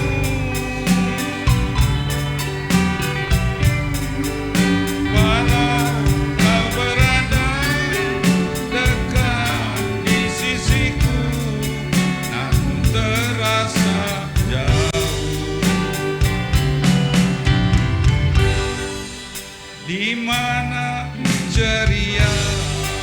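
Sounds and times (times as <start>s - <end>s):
instrumental band music: 0.0s - 23.0s.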